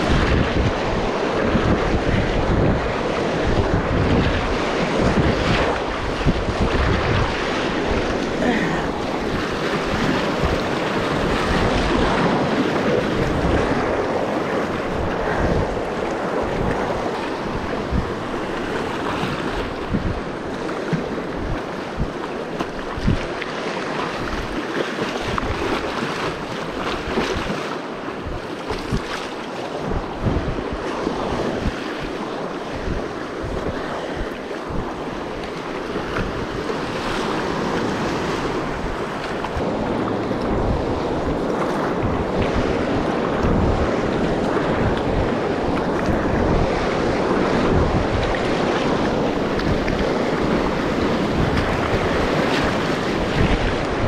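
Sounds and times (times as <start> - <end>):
river whitewater rushing: 0.0 - 28.2, 33.9 - 54.0
wind buffeting the microphone: 0.0 - 54.0.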